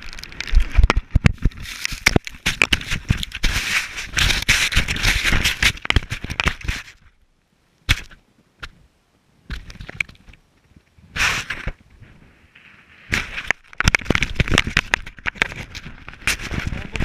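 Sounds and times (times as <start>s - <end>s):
snow crunching against camera: 0.0s - 7.1s, 9.4s - 17.0s
sharp knocks and crackles: 0.0s - 7.2s, 7.9s - 8.8s, 9.5s - 17.0s.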